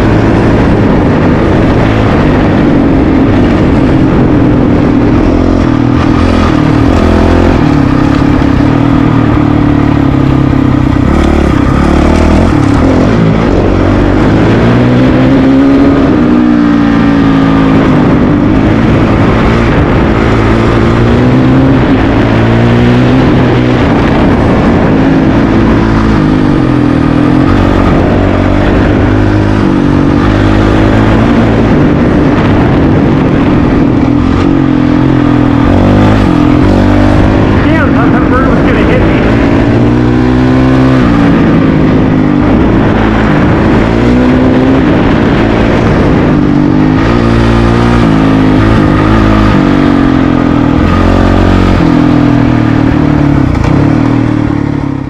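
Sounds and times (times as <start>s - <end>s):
dirt bike engine revving: 0.0s - 54.7s.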